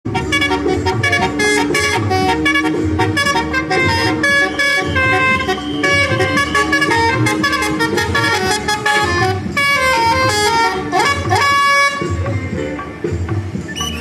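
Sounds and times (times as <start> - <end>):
bus horn playing melody: 0.1 - 12.8.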